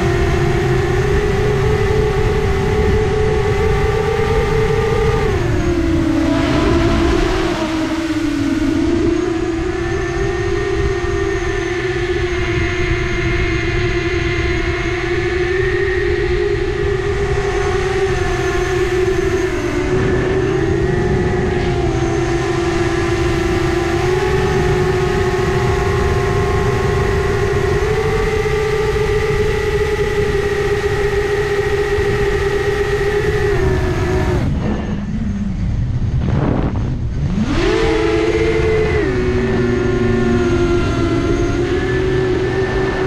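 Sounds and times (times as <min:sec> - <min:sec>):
rumbling rush of air: 0:00.0 - 0:14.6, 0:15.5 - 0:31.2, 0:31.9 - 0:43.0
drone propellers whining: 0:00.0 - 0:43.0.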